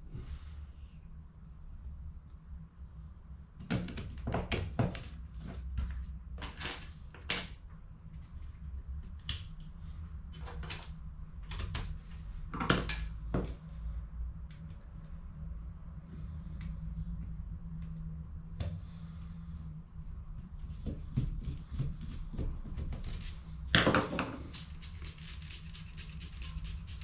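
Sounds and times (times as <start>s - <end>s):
steady low hum: 0.0s - 4.3s, 5.0s - 27.0s.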